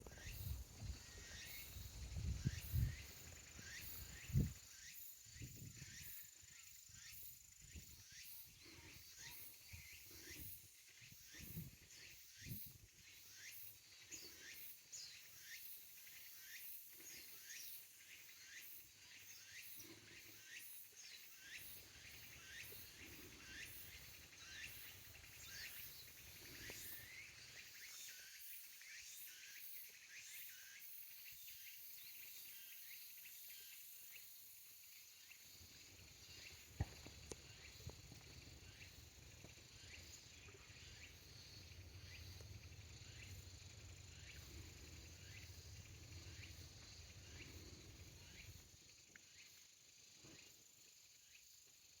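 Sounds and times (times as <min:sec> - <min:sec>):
cicada calling: 0:00.0 - 0:52.0.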